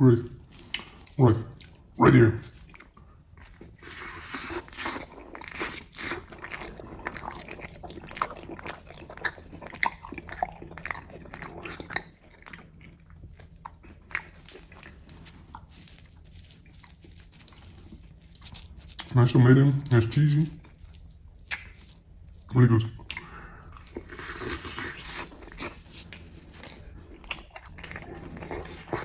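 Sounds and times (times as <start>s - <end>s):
chewing pizza with crunchy crust: 0.0s - 29.0s.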